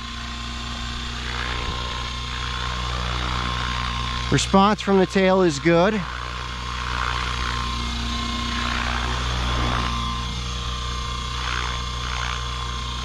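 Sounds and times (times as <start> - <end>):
high whine: 0.0 - 13.0
rc helicopter rotor hum: 0.0 - 13.0.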